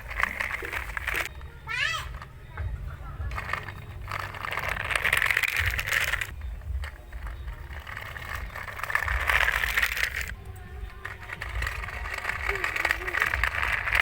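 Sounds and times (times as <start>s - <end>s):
toy car wheels rattling: 0.0s - 14.0s.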